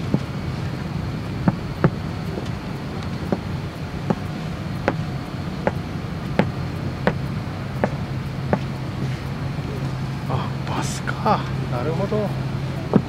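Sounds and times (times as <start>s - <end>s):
cabin air system hum: 0.0s - 13.0s
clicks and knocks of moving passengers: 0.0s - 13.0s.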